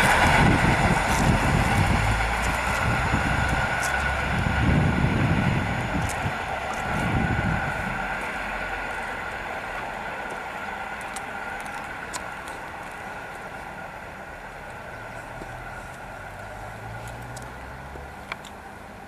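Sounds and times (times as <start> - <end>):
electric train running past: 0.0 - 17.0.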